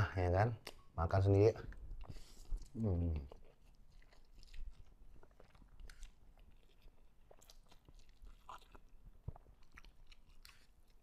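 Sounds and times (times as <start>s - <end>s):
chewing: 1.7s - 11.0s.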